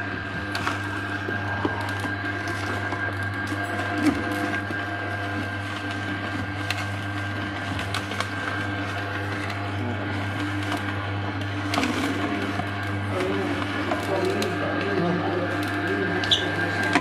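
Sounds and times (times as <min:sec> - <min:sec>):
juicer motor hum: 0:00.0 - 0:17.0.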